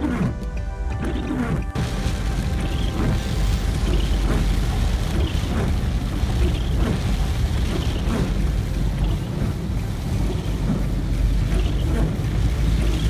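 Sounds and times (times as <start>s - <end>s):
tyres rumbling through water spray: 0.0s - 13.0s
rain beating on a car: 0.1s - 13.0s.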